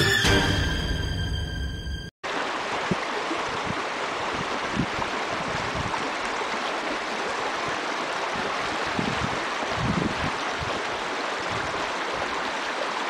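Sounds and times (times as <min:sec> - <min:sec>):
river water rushing: 0:02.2 - 0:13.0.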